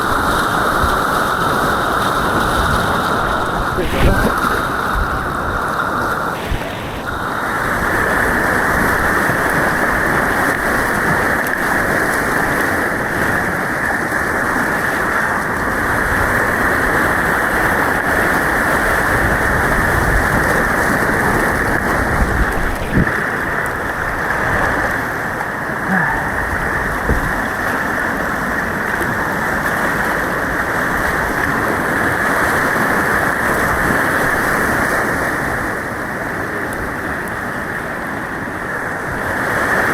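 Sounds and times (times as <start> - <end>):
white water rushing: 0.0 - 39.9.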